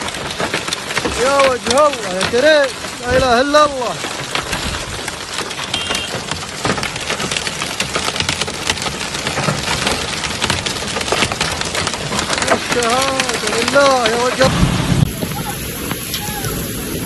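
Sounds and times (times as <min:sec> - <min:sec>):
hail ticking on car roof: 0:00.0 - 0:17.0
hiss of rain: 0:00.0 - 0:17.0.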